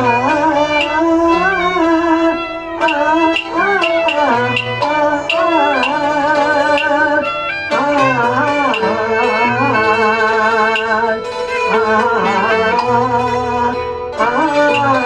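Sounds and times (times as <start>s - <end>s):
sharp percussive strikes: 0.0s - 15.0s
traditional string melody: 0.0s - 15.0s.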